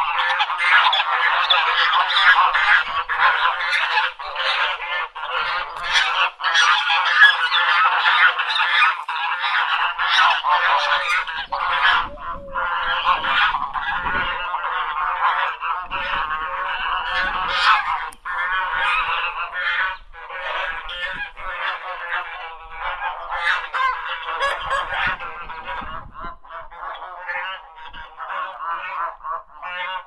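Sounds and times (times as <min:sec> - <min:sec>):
flock of ducks quacking: 0:00.0 - 0:30.0.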